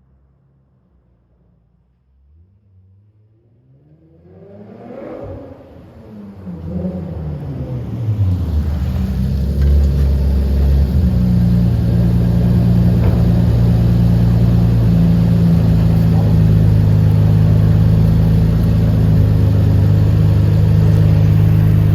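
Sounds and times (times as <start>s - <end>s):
car engine at raised revs: 3.6s - 21.9s.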